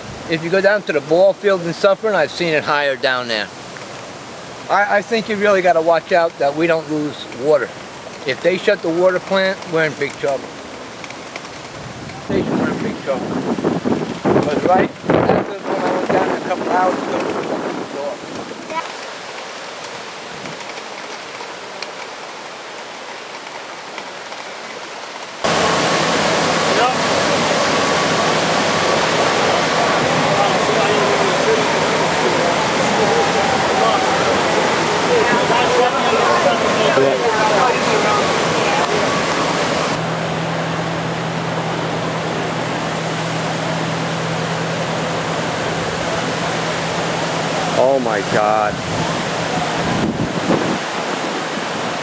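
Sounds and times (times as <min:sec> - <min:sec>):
river water rushing: 0:00.0 - 0:52.0.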